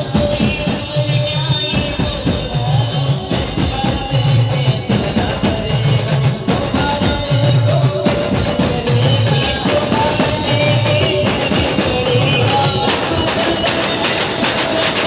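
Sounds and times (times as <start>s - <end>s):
loud amplified street band music: 0.0s - 15.0s.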